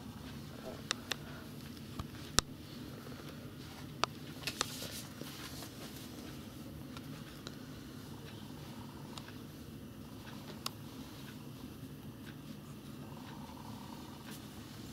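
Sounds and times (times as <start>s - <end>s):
low room tone hum: 0.0s - 14.9s.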